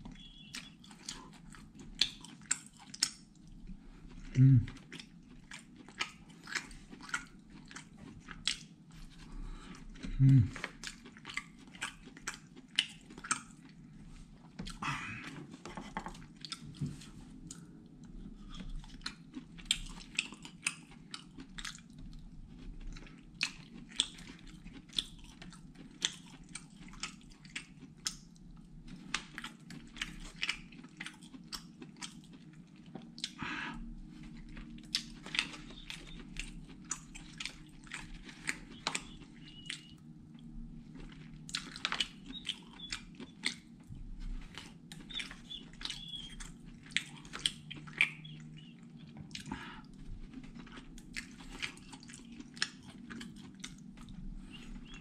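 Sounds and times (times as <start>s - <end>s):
person chewing with mouth clicks: 0.0s - 55.0s
steady low hum: 0.0s - 55.0s.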